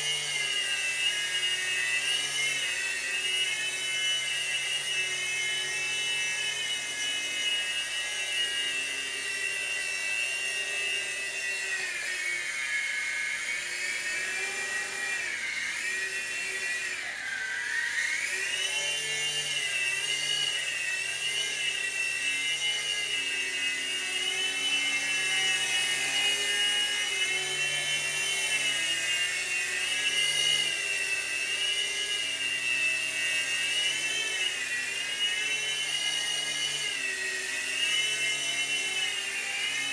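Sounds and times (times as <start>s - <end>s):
toy helicopter rotors whining: 0.0s - 39.9s.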